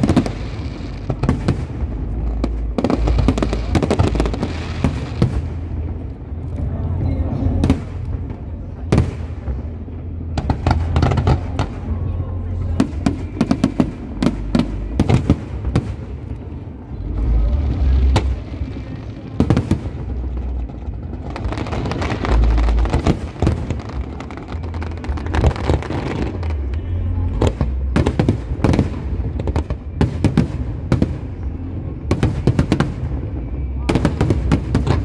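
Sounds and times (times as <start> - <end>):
fireworks bangs and booms: 0.0 - 35.0
fireworks crackle: 0.0 - 35.0.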